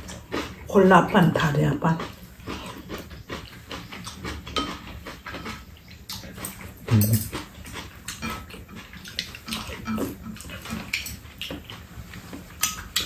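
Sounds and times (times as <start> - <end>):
slurping and chewing: 0.0 - 0.7, 1.5 - 13.0.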